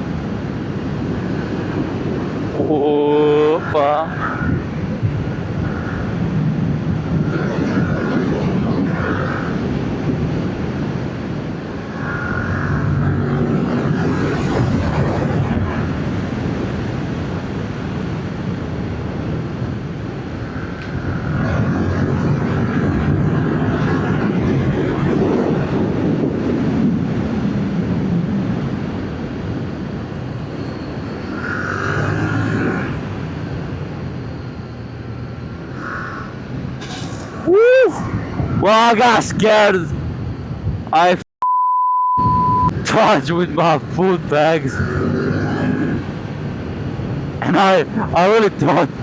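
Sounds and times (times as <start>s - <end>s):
wind rushing over microphone: 0.0s - 41.2s, 42.2s - 49.0s.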